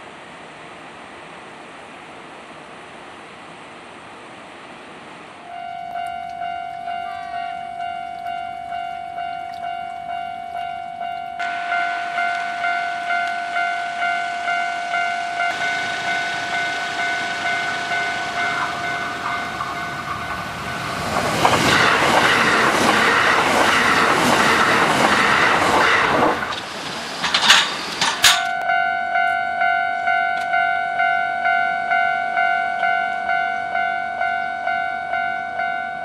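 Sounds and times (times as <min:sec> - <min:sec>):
train passing with loud rush: 0:00.0 - 0:36.0
level-crossing alarm bell ringing: 0:05.5 - 0:36.0.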